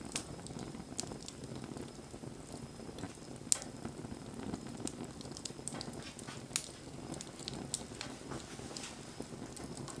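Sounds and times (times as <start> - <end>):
bonfire crackling and popping: 0.0 - 10.0.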